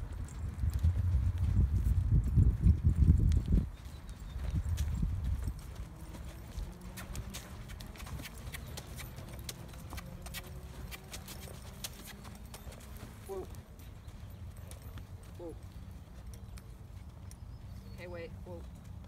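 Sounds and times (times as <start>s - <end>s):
hoofbeats on sand: 0.0s - 19.0s.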